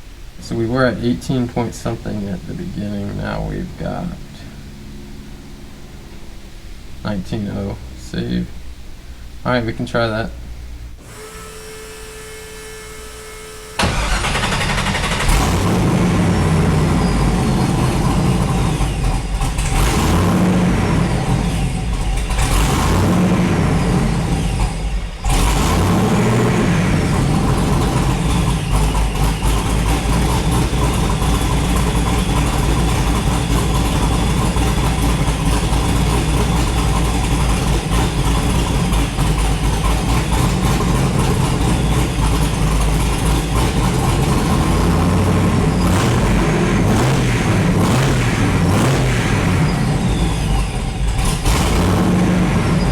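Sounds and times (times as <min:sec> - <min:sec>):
car engine starting and running: 0:00.0 - 0:52.9
supercharger whine: 0:00.0 - 0:52.9.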